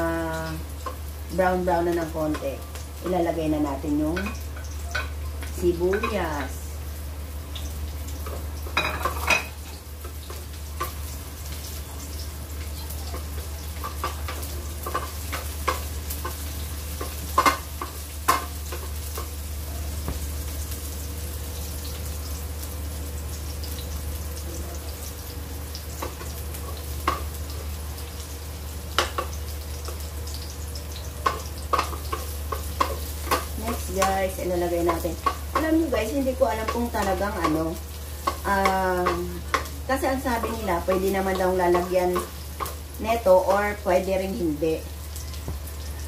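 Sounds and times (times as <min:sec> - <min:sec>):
onion sizzling in hot oil: 0:00.0 - 0:46.0.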